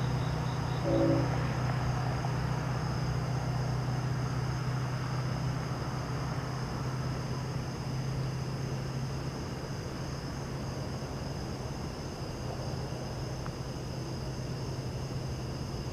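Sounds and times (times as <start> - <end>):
crickets chirring: 0.0 - 15.9
distant propeller plane drone: 0.0 - 15.9.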